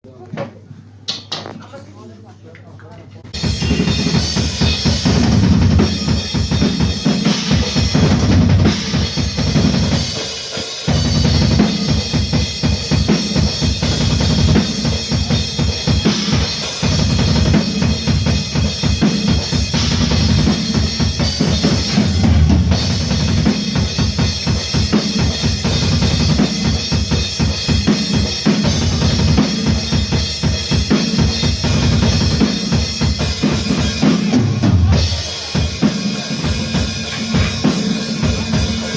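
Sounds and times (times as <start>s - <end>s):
bass drum and snare: 3.3s - 38.9s
metal band playing: 3.3s - 38.9s.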